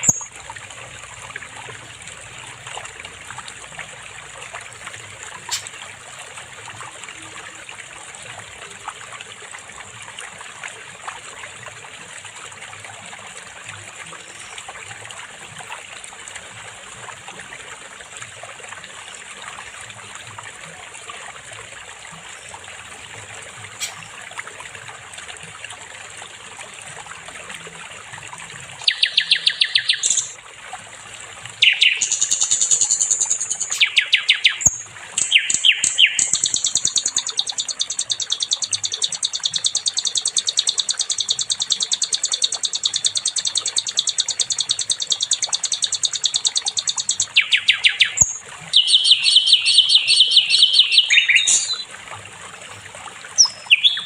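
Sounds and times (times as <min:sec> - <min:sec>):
trickling water: 0:00.0 - 0:54.0.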